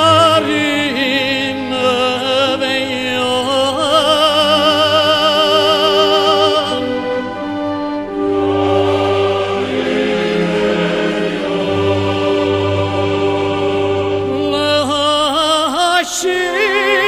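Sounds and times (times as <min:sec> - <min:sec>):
person singing with vibrato: 0:00.0 - 0:07.3, 0:08.1 - 0:17.0
sustained instrumental accompaniment: 0:00.0 - 0:17.0.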